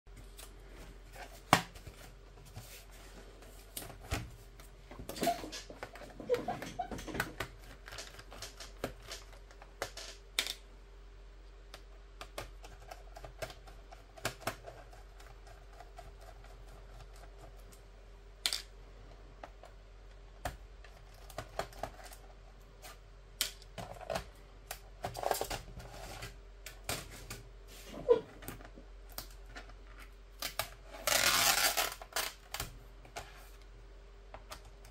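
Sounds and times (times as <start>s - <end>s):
faint steady hum: 0.1s - 34.9s.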